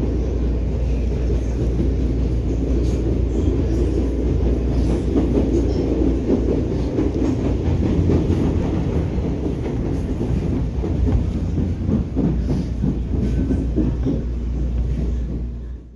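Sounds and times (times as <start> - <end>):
train rumbling: 0.0 - 15.9
wheels clattering over rails: 1.1 - 15.6.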